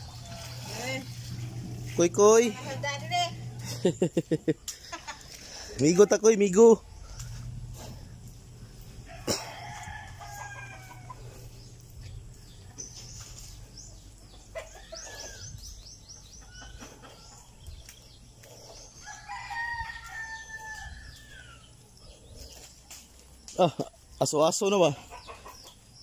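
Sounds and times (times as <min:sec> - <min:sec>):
roosters crowing: 0:00.0 - 0:22.8.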